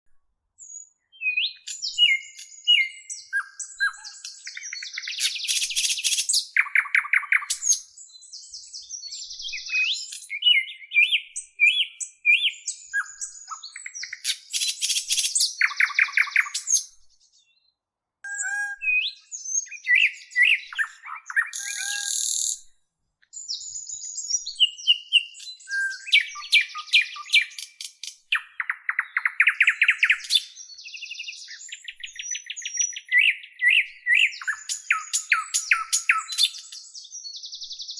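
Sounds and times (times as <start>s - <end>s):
songbird singing: 0.1s - 37.9s.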